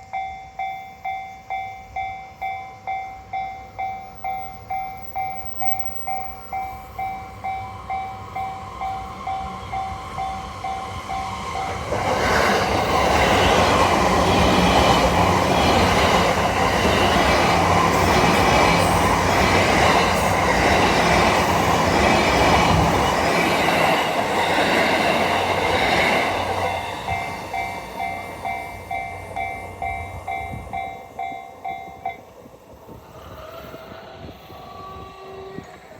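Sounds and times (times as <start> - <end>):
level-crossing warning bell: 0.0 - 32.5
train passing: 0.0 - 35.9.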